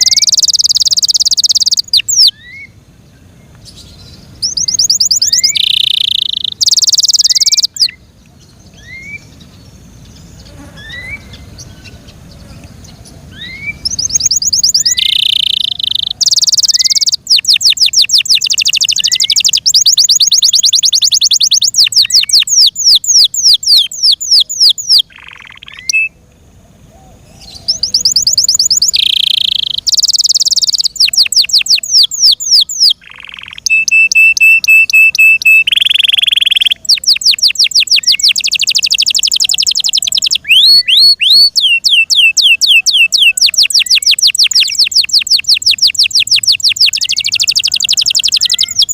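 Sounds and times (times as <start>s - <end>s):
canary singing: 0.0s - 2.8s, 3.6s - 26.2s, 27.4s - 48.9s.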